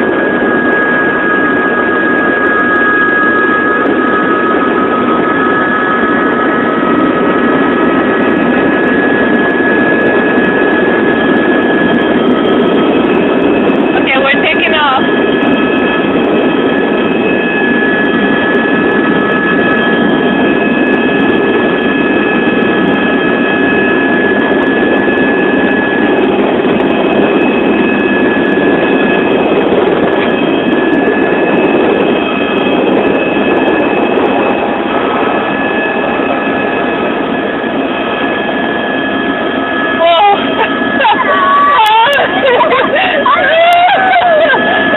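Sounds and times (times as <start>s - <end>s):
helicopter engine and rotor noise: 0.0s - 44.9s
high whine: 0.0s - 44.9s.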